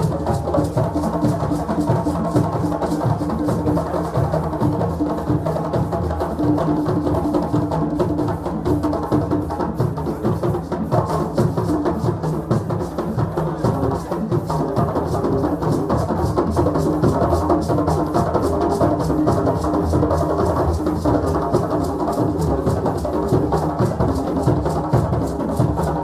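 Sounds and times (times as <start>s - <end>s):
drums playing rhythm: 0.0s - 26.0s.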